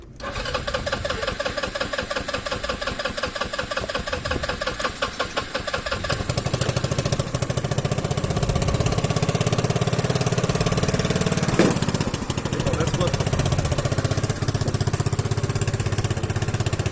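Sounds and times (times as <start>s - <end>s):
small motorcycle engine running: 0.2s - 16.9s.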